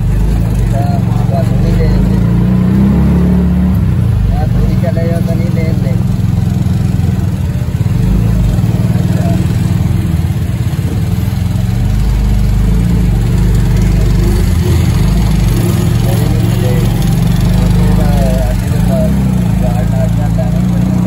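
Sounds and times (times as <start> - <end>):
motorcycle engines running: 0.0 - 21.0.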